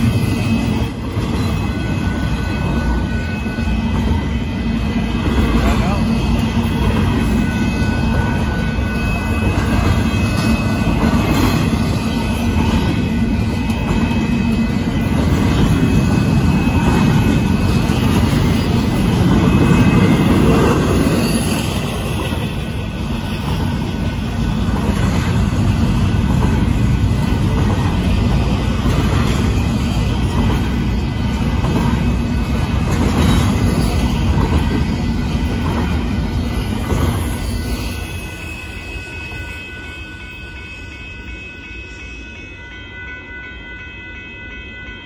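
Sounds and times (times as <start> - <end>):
freight train rumbling past: 0.0 - 44.9.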